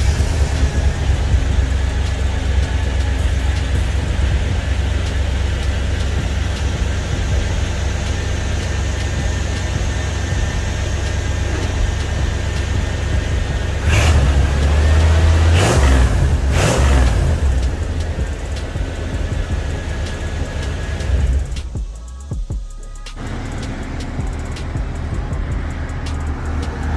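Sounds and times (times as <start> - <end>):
car engine idling and revving: 0.0 - 26.9.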